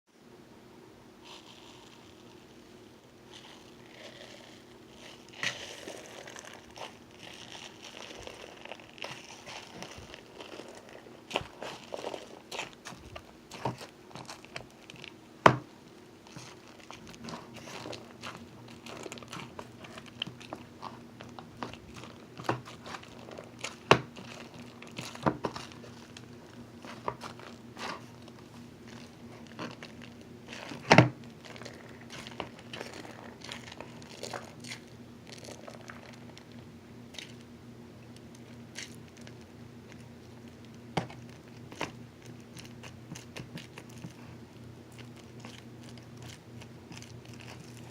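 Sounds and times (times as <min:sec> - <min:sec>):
faint low hum: 0:00.1 - 0:47.9
hands squishing sticky slime: 0:03.3 - 0:36.4, 0:38.2 - 0:47.9.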